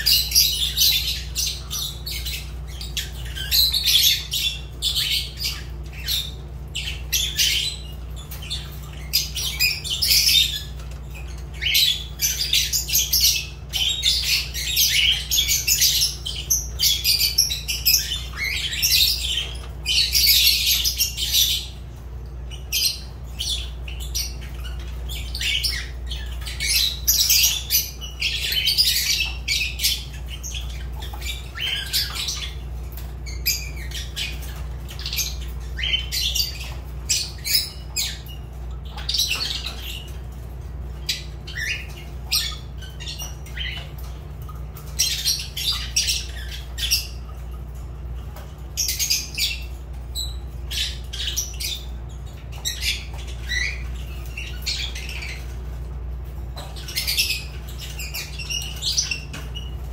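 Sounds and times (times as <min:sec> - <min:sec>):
lovebirds chirping and squawking: 0:00.0 - 0:59.9
steady low hum: 0:00.0 - 0:59.9.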